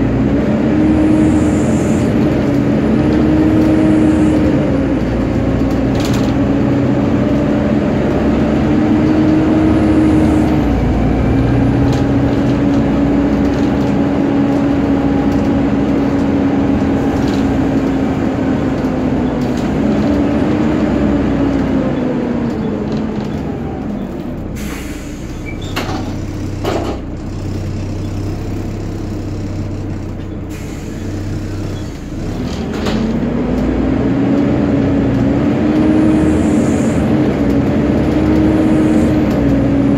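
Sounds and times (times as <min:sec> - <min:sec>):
engine cooling fan whine: 0:00.0 - 0:24.5, 0:32.0 - 0:39.9
bus engine running: 0:00.0 - 0:39.9.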